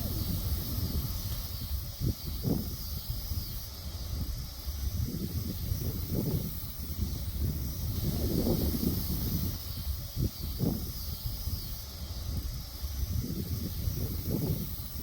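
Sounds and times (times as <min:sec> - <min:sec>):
high hiss of wind: 0:00.0 - 0:15.0
wind buffeting microphone: 0:00.0 - 0:15.0.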